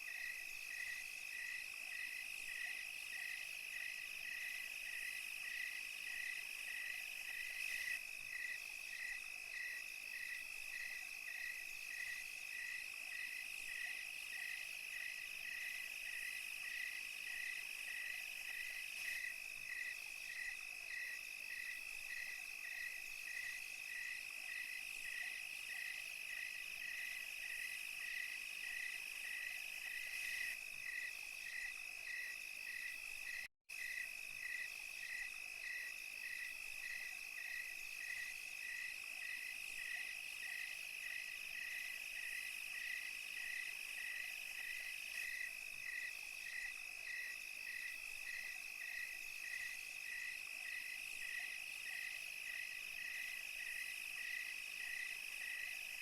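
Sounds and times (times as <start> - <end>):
crickets trilling: 0.0 - 55.9
regular insect chirp: 0.0 - 56.0.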